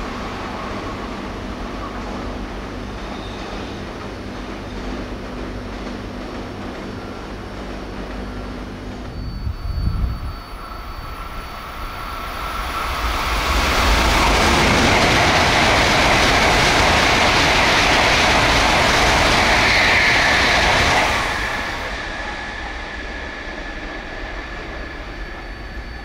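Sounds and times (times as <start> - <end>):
train passing at high speed: 0.0 - 26.0.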